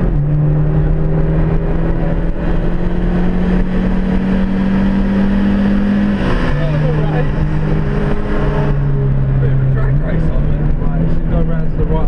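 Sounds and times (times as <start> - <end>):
road and wind noise: 0.0 - 12.0
turbocharged car engine revving: 0.0 - 12.0.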